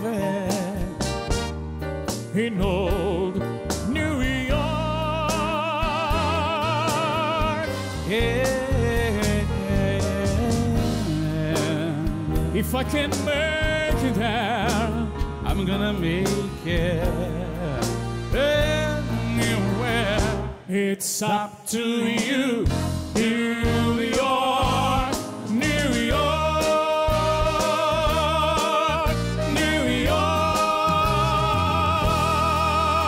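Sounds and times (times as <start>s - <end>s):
live band music: 0.0s - 20.8s, 21.8s - 33.0s.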